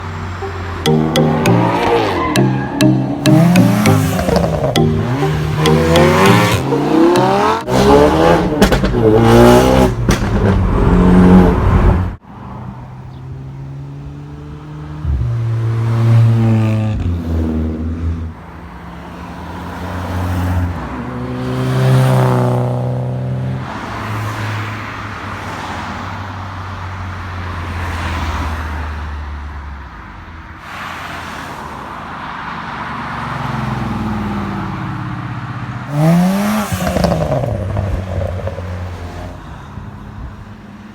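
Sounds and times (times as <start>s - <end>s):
cars accelerating past: 0.0s - 26.3s, 30.7s - 39.6s.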